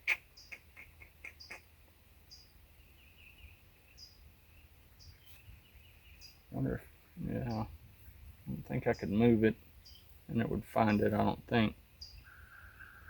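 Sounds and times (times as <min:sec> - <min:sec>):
faint bird chirps: 0:00.0 - 0:11.2, 0:11.9 - 0:13.0.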